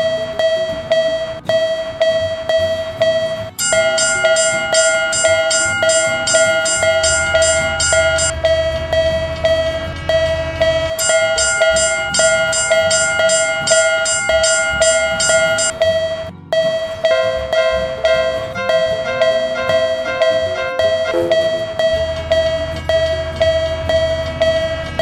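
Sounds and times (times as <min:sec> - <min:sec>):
railroad crossing bell ringing: 0:00.0 - 0:25.0.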